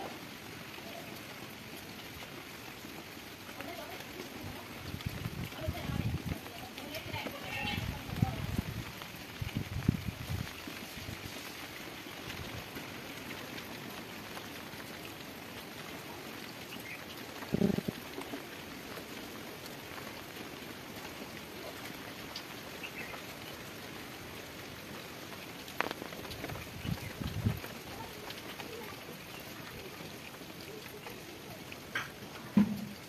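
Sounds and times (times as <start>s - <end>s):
light rain on wet ground: 0.0s - 33.0s.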